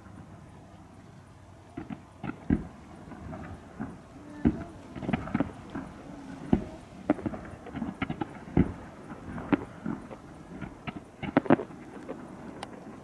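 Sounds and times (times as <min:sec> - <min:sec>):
fireworks bursting: 0:01.7 - 0:13.0.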